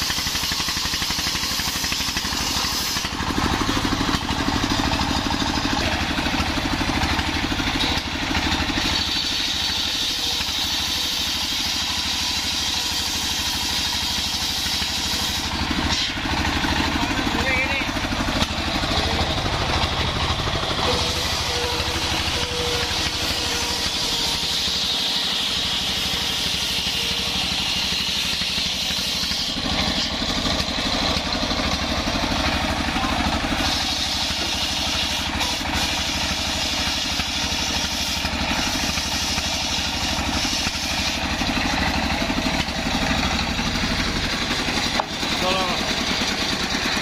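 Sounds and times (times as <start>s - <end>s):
circular saw cutting wood: 0.0s - 47.0s
stationary engine running: 0.0s - 47.0s.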